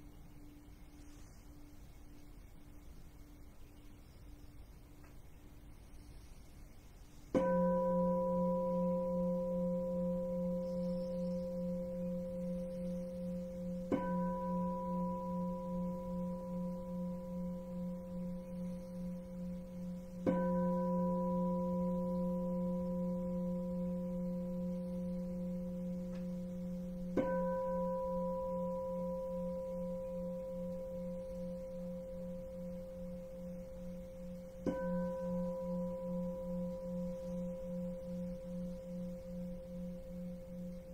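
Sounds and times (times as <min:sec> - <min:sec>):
bowl bell ringing: 0:07.3 - 0:40.9.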